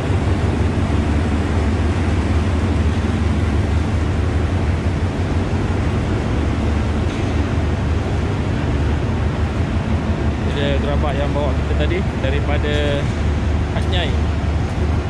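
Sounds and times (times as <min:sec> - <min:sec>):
diesel train idling: 0:00.0 - 0:15.0.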